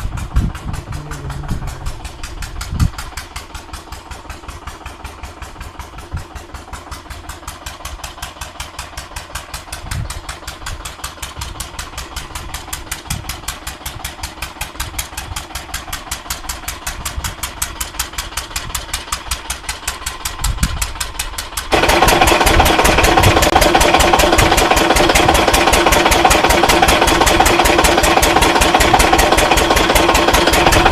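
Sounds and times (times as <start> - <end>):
farm engine running rhythmically: 0.0 - 30.9.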